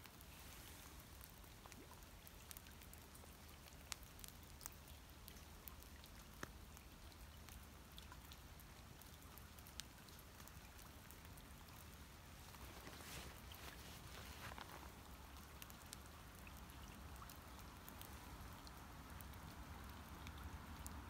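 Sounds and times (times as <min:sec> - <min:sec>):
drizzle raindrops ticking: 0:00.0 - 0:21.0.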